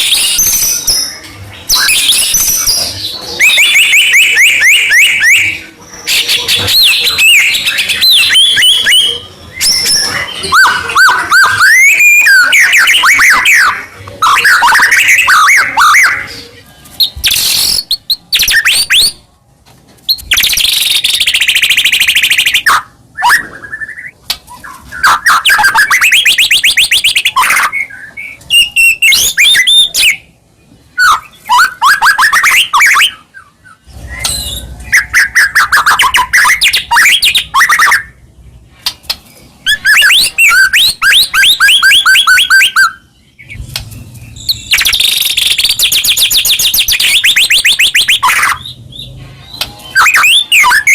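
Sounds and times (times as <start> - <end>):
songbird trilling and whistling: 0.0 - 19.2, 20.1 - 30.3, 31.0 - 38.2, 39.6 - 43.6, 44.2 - 50.9.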